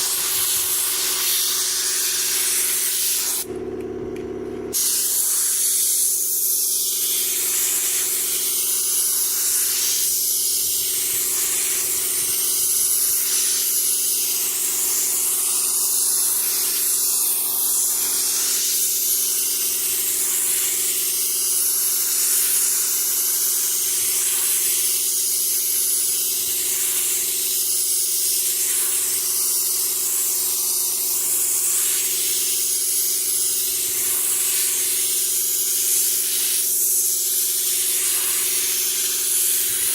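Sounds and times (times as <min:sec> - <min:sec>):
paint spray gun hissing: 0:00.0 - 0:03.5, 0:04.7 - 0:39.9.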